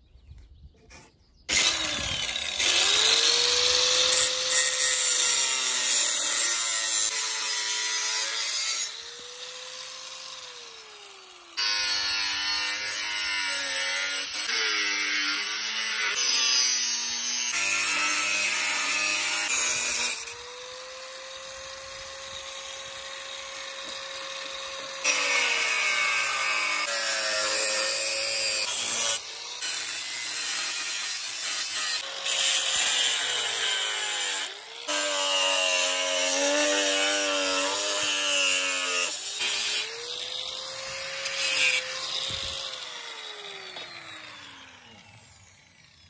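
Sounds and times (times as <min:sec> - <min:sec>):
angle grinder cutting steel: 0:01.5 - 0:46.0.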